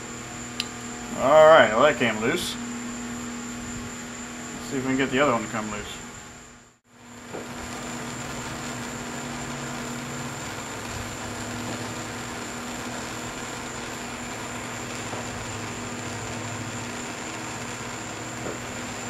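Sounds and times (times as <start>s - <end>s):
steady hiss: 0.0s - 19.0s
thin high whine: 0.0s - 19.0s.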